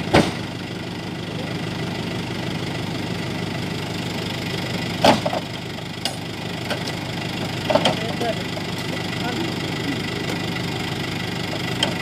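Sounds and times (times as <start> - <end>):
lorry engine idling: 0.0 - 12.0.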